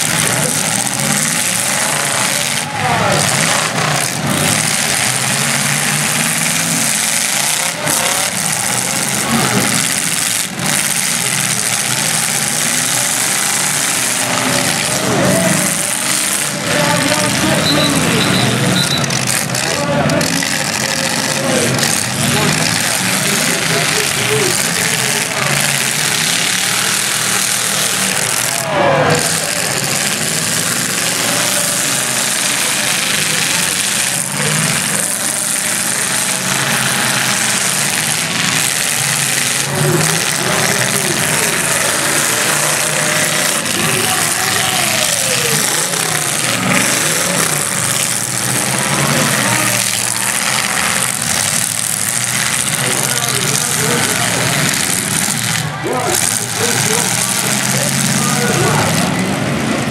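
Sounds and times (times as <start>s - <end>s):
car engines running together: 0.0s - 59.9s.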